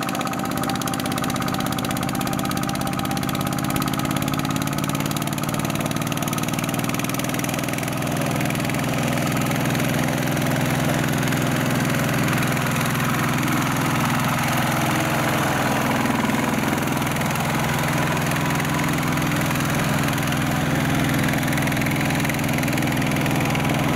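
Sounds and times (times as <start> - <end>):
diesel tractor engine running: 0.0 - 23.9.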